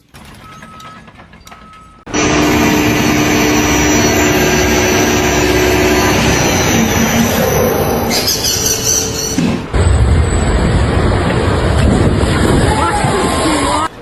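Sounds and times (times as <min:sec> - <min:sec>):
loud machine running with whine: 0:02.1 - 0:13.9.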